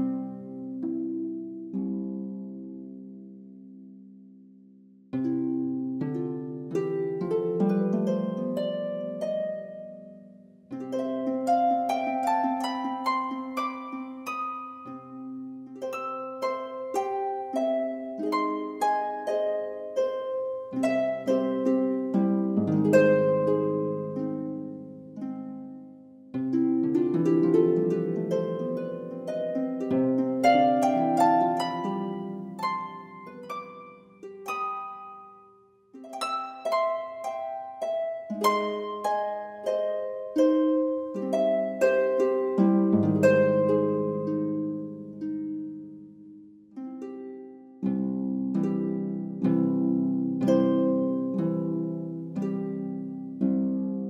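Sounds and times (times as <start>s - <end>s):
harp-like plucked string music: 0.0s - 54.0s.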